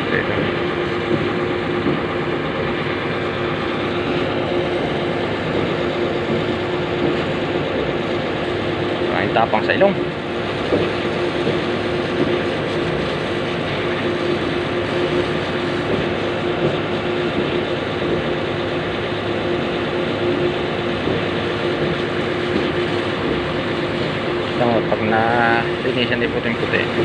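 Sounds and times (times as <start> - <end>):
engine hum: 0.0 - 27.0.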